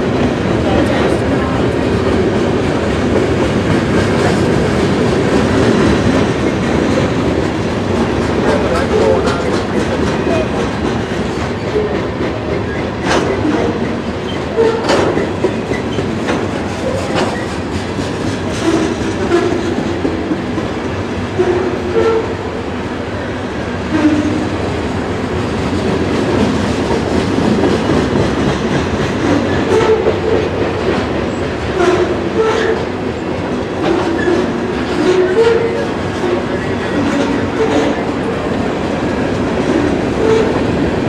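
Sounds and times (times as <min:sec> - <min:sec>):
train wheel and rail rumble: 0:00.0 - 0:41.0
wheels clacking over rail joints: 0:00.0 - 0:41.0.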